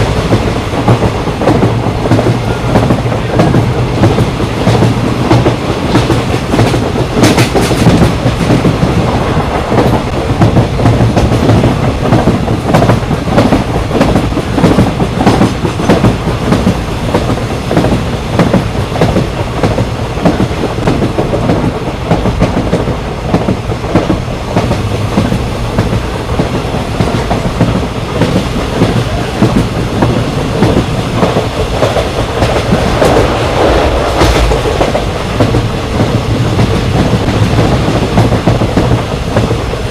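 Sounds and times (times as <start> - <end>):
train rumble and hum: 0.0 - 39.9.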